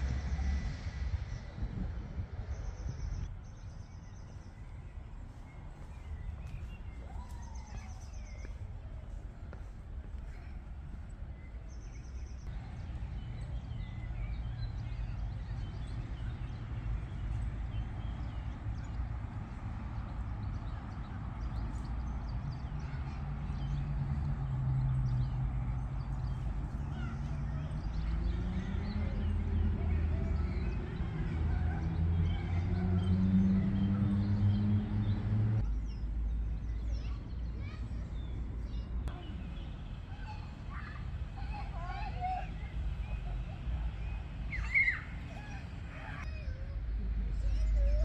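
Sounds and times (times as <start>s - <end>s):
songbirds chirping and whistling: 0.0s - 48.0s.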